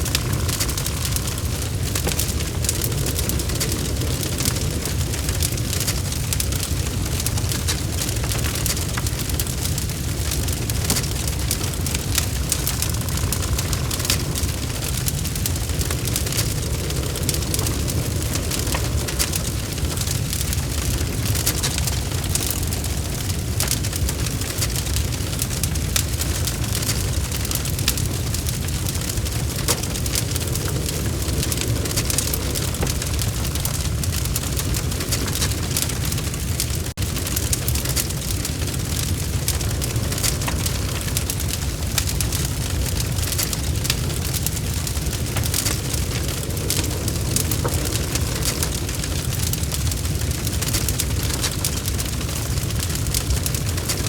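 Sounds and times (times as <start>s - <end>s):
log fire crackling and popping: 0.0s - 54.0s
low rumble of flames: 0.0s - 54.0s.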